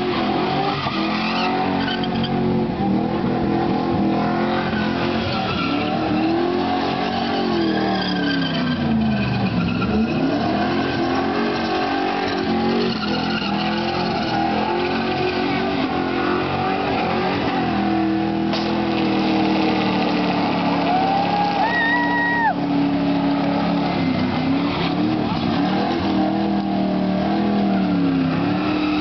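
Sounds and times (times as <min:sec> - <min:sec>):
car engine at high revs: 0:00.0 - 0:29.0.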